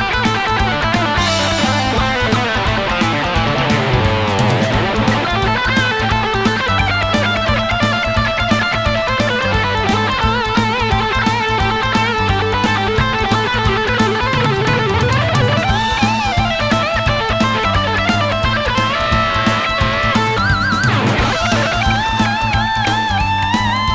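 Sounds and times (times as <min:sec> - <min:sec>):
backing track bass and drums: 0:00.0 - 0:23.9
electric guitar lead lines: 0:00.0 - 0:23.9.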